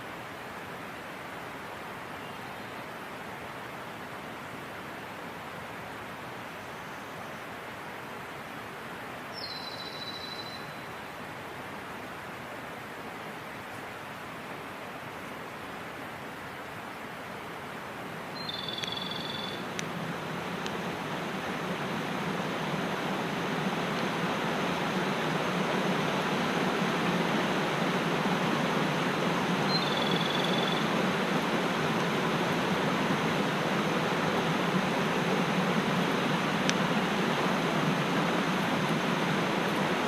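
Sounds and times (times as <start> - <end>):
mountain stream rushing: 0.0 - 40.0.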